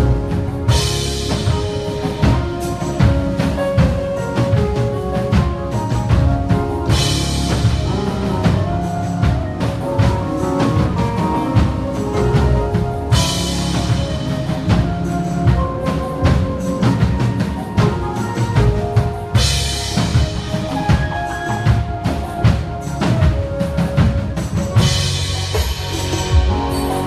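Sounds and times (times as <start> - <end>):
bass guitar: 0.0 - 27.0
drum kit fills: 0.0 - 27.0
held keyboard chords: 0.0 - 27.0.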